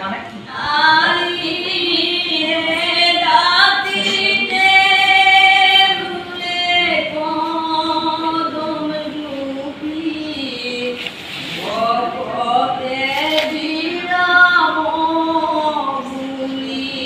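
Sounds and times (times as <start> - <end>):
group singing in unison: 0.6 - 17.0.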